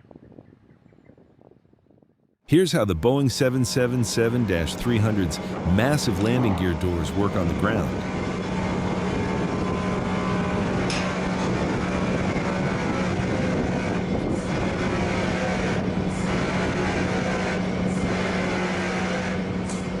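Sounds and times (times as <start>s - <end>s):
machinery hum: 2.5s - 20.0s.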